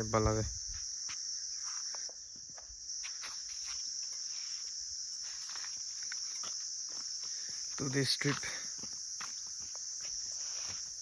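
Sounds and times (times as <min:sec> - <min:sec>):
faint scattered ticks: 0:00.0 - 0:11.0
high-pitched insect chorus: 0:00.0 - 0:11.0.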